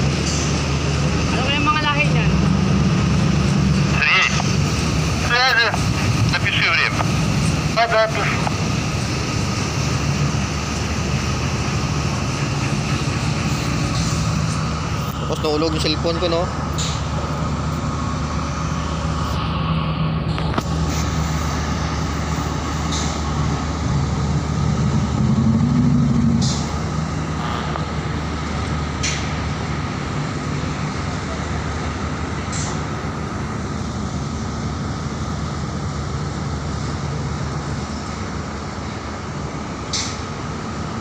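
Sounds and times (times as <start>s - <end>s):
ship engines droning: 0.0s - 41.0s.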